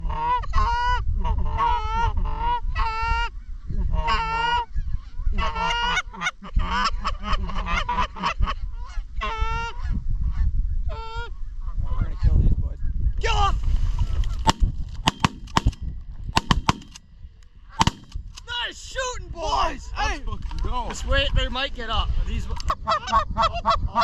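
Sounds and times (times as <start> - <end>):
wind on microphone: 0.0 - 18.4, 19.0 - 24.0.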